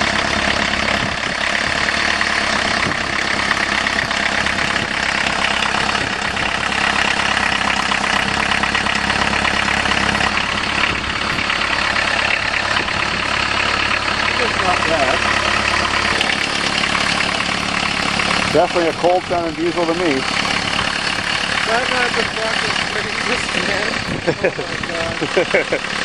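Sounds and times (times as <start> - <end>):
diesel engine clattering idle: 0.0 - 26.0.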